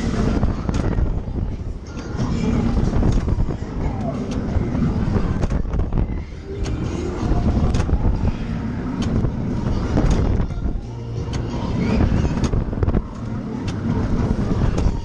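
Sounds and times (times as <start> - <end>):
fairground ride rumble: 0.0 - 15.0
clicks and rattles: 0.2 - 15.0.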